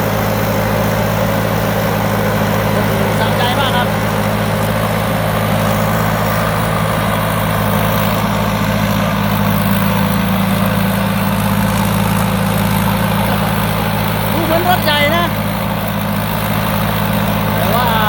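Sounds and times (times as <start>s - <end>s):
harvester engine droning: 0.0s - 18.0s.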